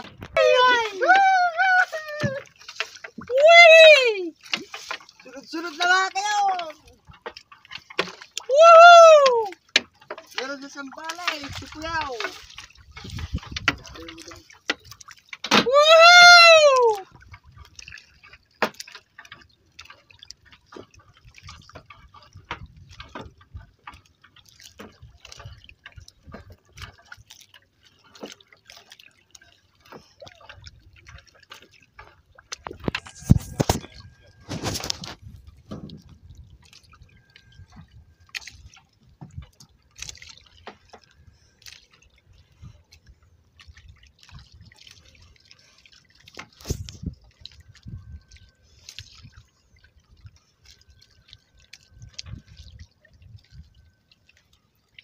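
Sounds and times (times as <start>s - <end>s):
water dripping and splashing: 0.0s - 55.0s.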